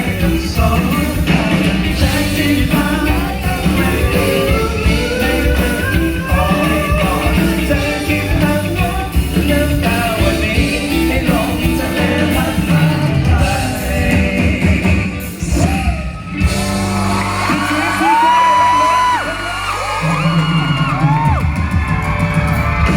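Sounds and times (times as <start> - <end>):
live rock band with singer: 0.0 - 22.9.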